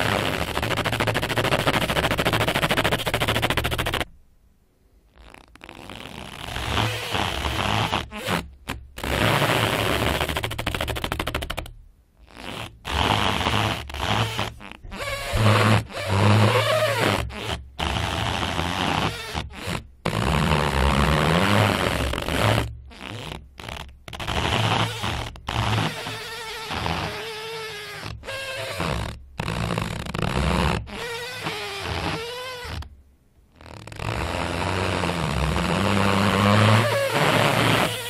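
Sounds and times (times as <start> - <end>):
rubber slat squeaking and buzzing: 0.0 - 4.1, 5.1 - 38.0.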